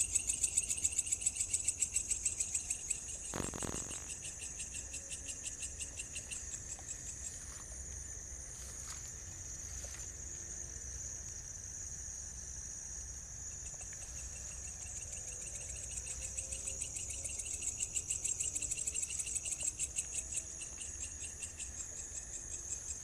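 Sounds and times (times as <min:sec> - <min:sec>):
insects trilling: 0:00.0 - 0:23.0
rapidly pulsing insect call: 0:00.0 - 0:23.0.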